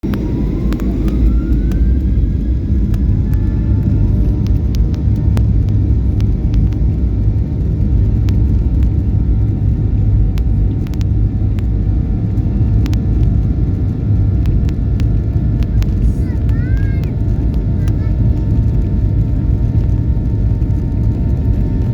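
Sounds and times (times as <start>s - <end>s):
airplane rumble on takeoff: 0.0s - 21.9s
engine whine: 0.0s - 21.9s.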